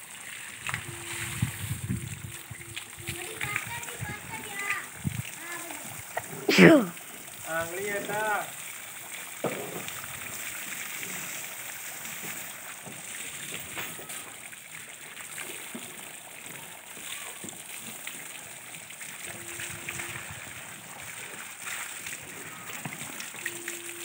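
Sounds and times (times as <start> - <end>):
hose water spraying and splashing: 0.0 - 24.0.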